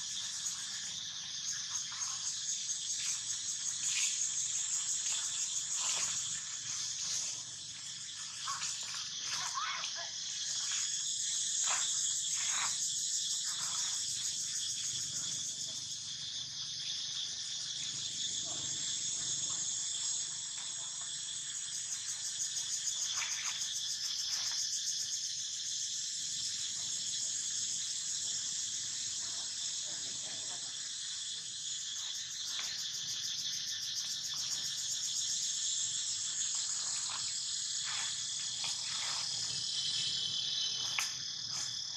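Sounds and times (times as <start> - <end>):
insects shrilling: 0.0 - 41.9.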